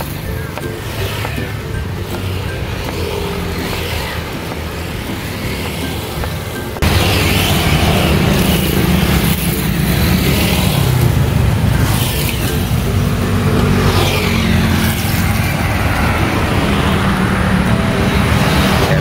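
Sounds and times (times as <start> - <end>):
traffic engine hum: 0.0 - 19.0
vehicles passing by: 0.0 - 19.0.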